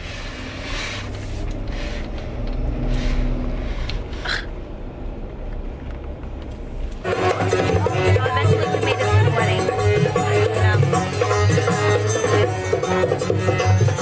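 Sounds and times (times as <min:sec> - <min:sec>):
car interior road rumble: 0:00.0 - 0:14.0.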